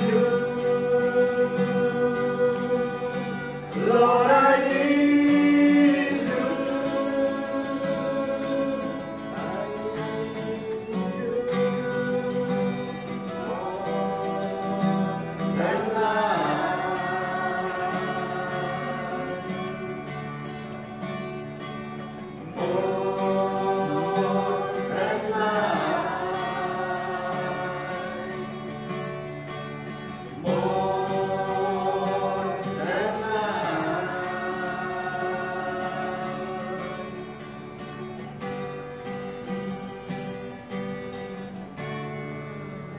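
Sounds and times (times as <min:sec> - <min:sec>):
voices singing: 0:00.0 - 0:38.6
acoustic guitar: 0:00.0 - 0:42.9.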